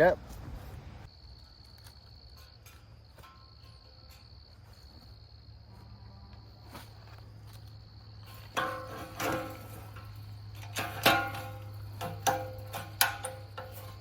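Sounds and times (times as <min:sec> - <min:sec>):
crickets trilling: 0:01.0 - 0:14.0.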